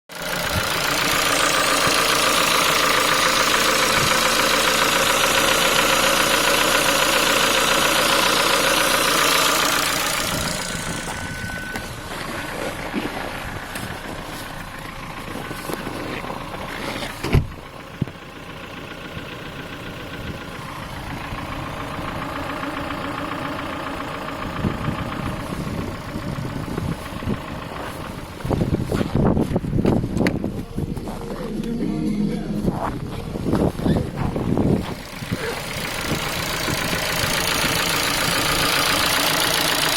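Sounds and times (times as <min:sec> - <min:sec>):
petrol engine running with a knock: 0:00.1 - 0:31.8, 0:32.6 - 0:39.9.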